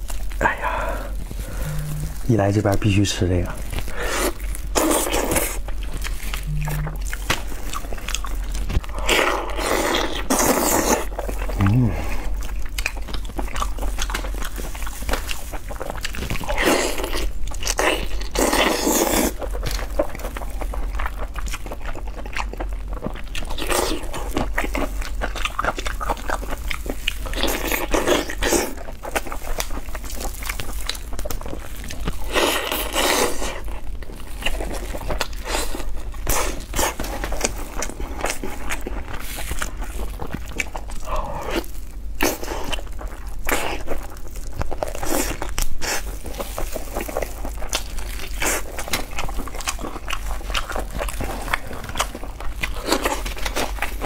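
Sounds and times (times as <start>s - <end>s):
meat and skin tearing: 0.0s - 54.0s
person chewing: 0.0s - 54.0s.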